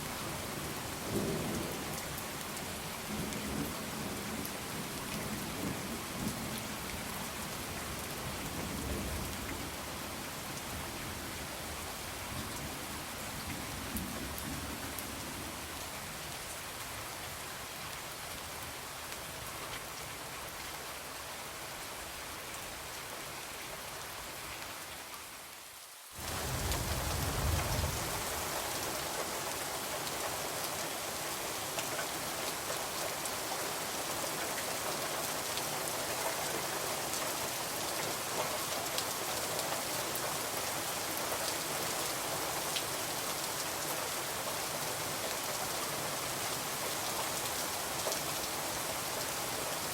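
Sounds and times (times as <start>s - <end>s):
rain on a window: 0.0s - 49.9s.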